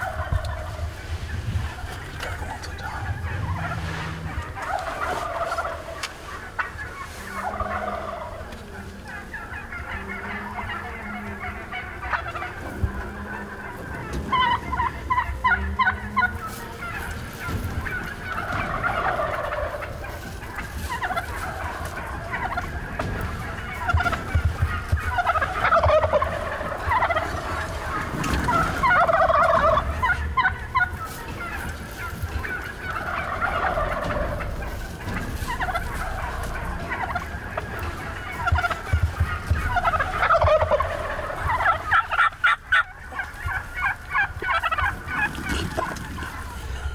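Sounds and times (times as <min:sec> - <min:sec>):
turkeys gobbling: 0:00.0 - 0:46.9.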